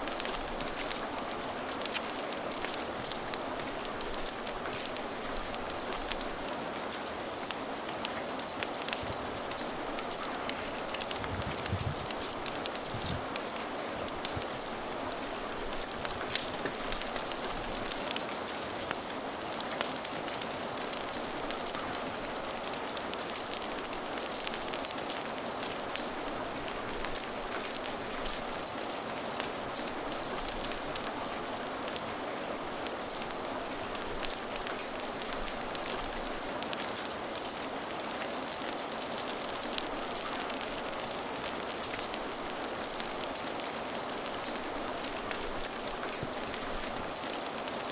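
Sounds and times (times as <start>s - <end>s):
fire crackling: 0.0s - 47.9s
rain hissing: 0.0s - 47.9s.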